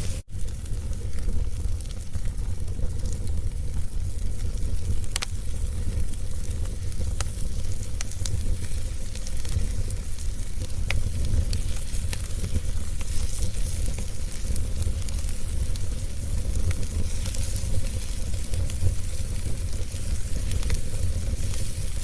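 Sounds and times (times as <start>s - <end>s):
sharp pops of fire: 0.0s - 22.0s
wood fire crackling: 0.0s - 22.0s.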